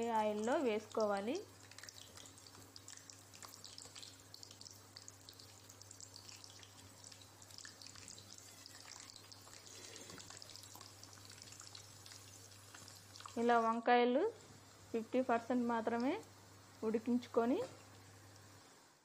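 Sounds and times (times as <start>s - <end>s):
vegetables frying in hot oil: 0.0s - 13.9s, 14.8s - 19.0s.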